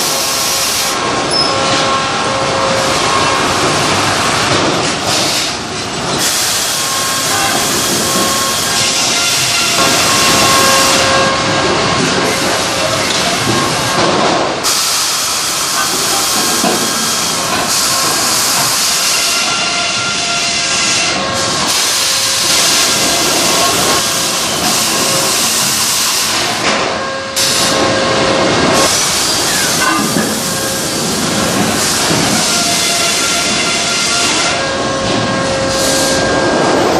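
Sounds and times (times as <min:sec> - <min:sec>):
sawmill machinery din: 0:00.0 - 0:36.9.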